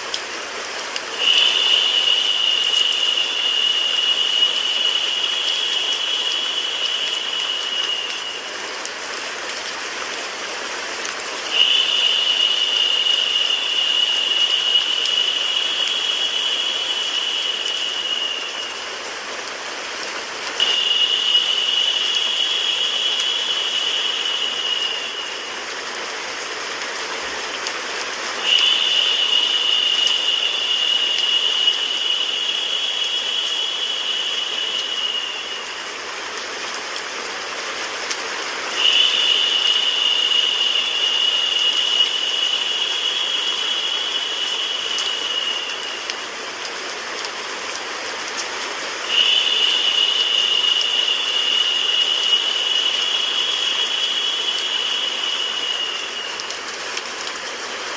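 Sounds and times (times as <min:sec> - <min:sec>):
high-pitched hiss: 0:00.0 - 0:57.9
rain-like white noise: 0:00.0 - 0:57.9.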